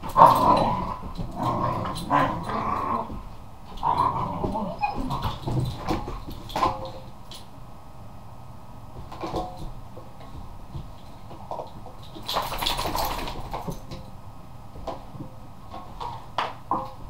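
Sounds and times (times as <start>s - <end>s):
rustling: 0.0s - 7.6s, 8.9s - 17.0s.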